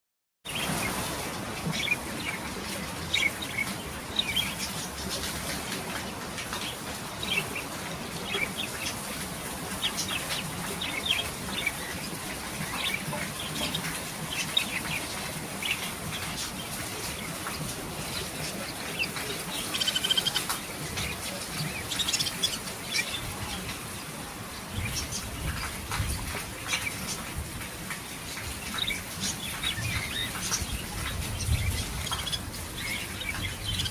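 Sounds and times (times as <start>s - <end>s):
bird chicks chirping: 0.5s - 23.9s, 28.2s - 33.9s.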